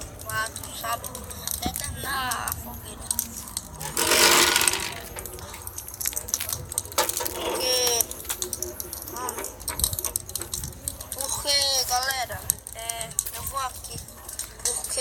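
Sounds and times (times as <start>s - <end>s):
bonfire crackling and popping: 0.0s - 4.0s, 4.9s - 15.0s.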